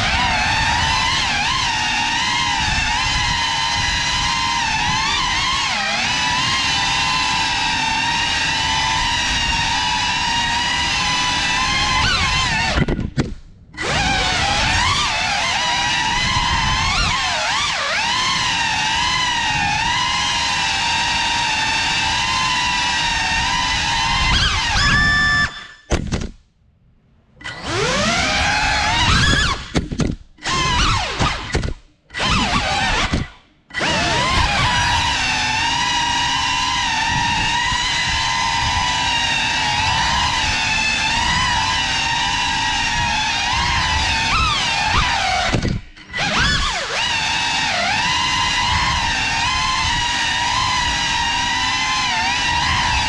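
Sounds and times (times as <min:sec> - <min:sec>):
drone motors whining: 0:00.0 - 0:26.0, 0:27.4 - 0:53.0.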